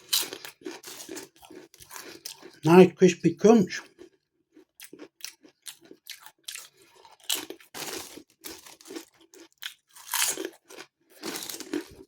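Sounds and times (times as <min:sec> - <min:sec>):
crunching and chewing crisps: 0:00.0 - 0:03.0, 0:03.8 - 0:12.0.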